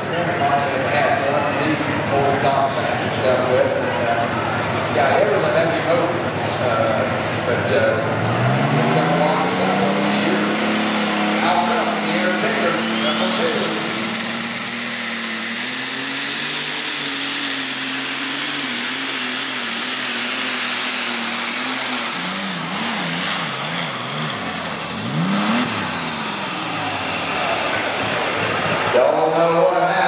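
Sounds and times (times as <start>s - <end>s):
diesel engine roaring under load: 0.0s - 30.0s
high turbo whine: 0.0s - 30.0s.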